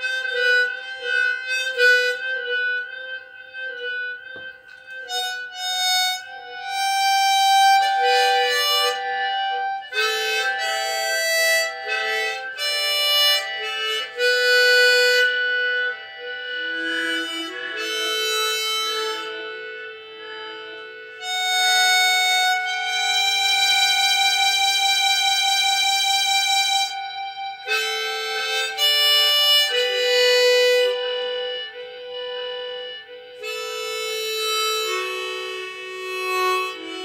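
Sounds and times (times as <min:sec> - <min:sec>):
harmonica playing slow melody: 0:00.0 - 0:37.0.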